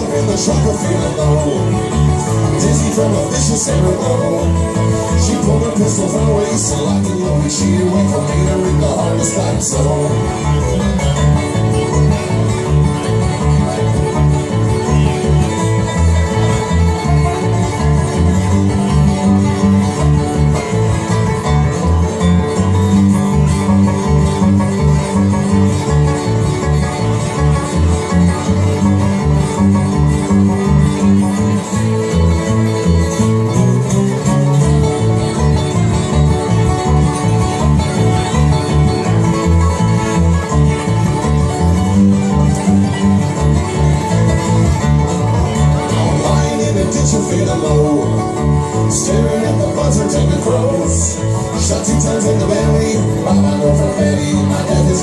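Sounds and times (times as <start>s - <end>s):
bluegrass band playing: 0.0s - 55.0s.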